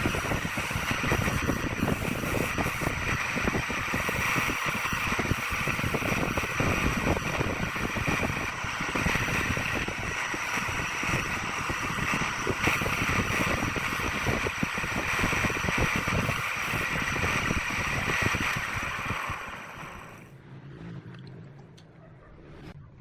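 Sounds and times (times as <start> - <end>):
lathe motor whine: 0.0 - 20.3
tool cutting spinning wood: 0.0 - 20.3.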